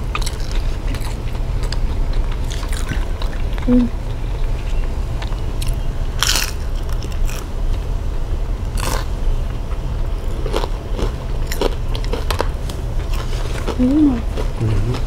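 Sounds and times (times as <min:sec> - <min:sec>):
biting and chewing: 0:00.0 - 0:07.8, 0:08.6 - 0:15.0
low hum: 0:00.0 - 0:15.0.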